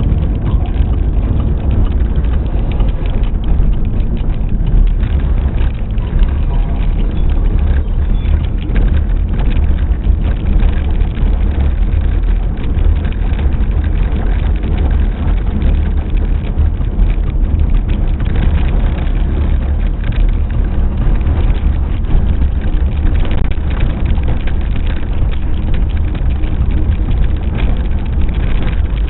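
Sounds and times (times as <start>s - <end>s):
car tyres and engine rumble: 0.0s - 29.0s
gravel crackle: 0.0s - 29.0s.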